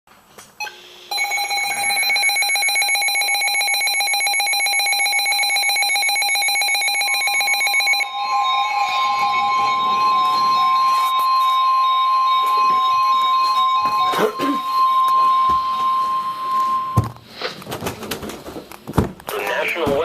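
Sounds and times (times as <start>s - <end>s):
rapidly pulsing electronic beep: 0.6s - 17.0s
steady warning tone: 0.6s - 17.1s.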